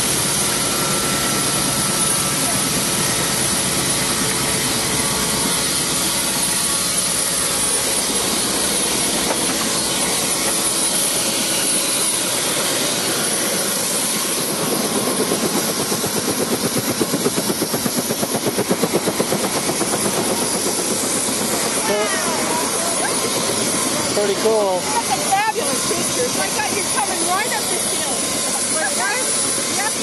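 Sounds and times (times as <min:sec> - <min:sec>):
helicopter engine with high whine: 0:00.0 - 0:30.0
helicopter rotor blades beating: 0:00.0 - 0:30.0.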